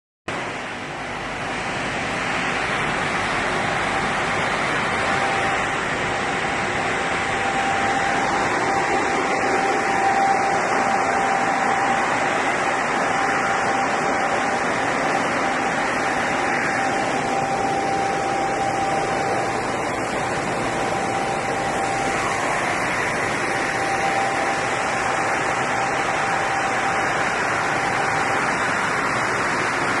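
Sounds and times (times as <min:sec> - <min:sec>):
glass washing machine running: 0:00.3 - 0:30.0.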